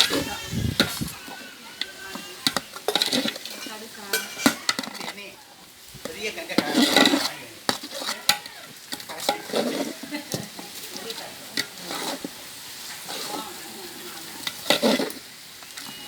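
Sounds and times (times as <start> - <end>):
ladle scraping pan: 0.0 - 5.4, 6.0 - 16.0
food sizzling: 0.0 - 16.0.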